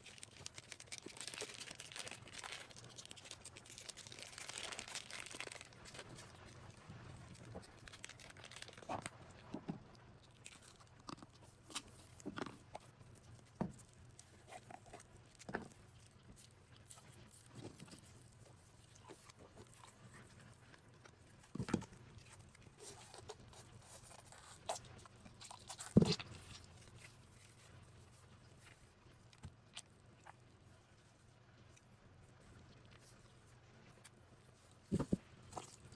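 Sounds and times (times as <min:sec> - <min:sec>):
slime squishing and crackling: 0:00.0 - 0:28.9.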